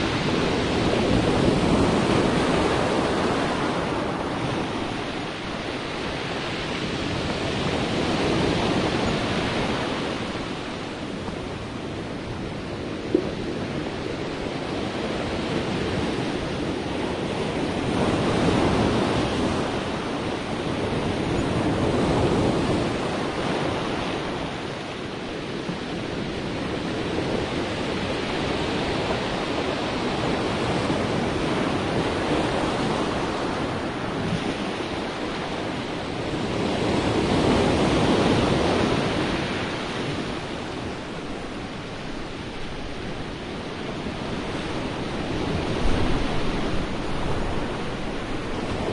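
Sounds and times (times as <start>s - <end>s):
sea waves washing in: 0.0s - 48.9s.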